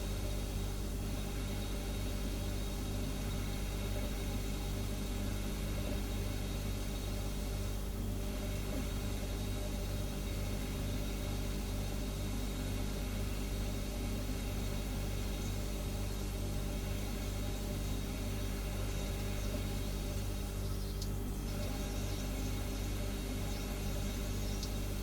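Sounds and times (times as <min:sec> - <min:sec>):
refrigerator humming: 0:00.0 - 0:25.0.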